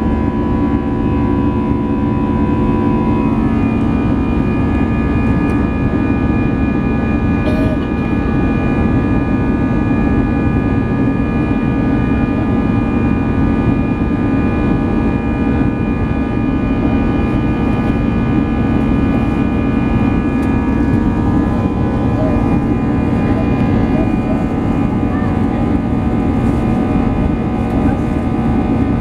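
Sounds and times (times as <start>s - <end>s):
jet engine drone: 0.0s - 29.0s
steady whining tones: 0.0s - 29.0s.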